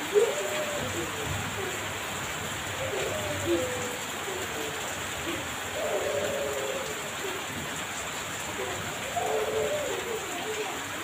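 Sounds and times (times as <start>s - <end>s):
bird low hooting call: 0.0s - 1.8s, 2.8s - 7.5s, 8.6s - 10.9s
heavy rain falling: 0.0s - 11.0s.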